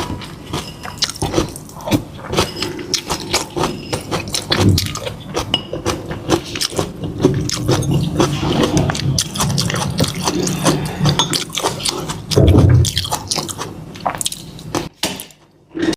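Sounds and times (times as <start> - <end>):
wet chewing: 0.0 - 14.9.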